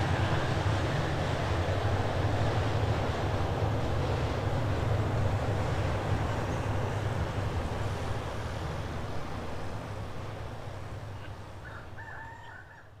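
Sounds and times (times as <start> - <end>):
distant diesel locomotive rumble: 0.0 - 13.0.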